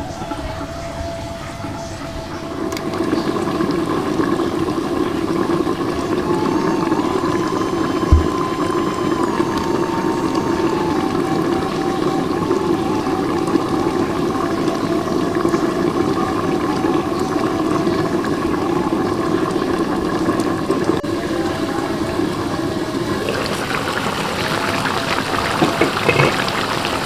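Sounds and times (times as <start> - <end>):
sauce bubbling in a wok: 2.5 - 27.0.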